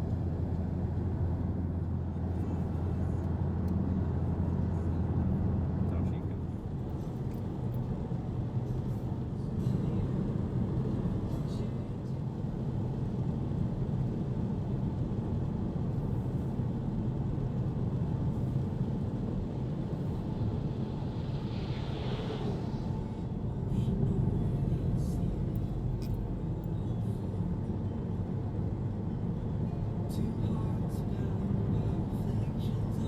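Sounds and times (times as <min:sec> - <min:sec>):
vehicle rumble: 0:00.0 - 0:33.0.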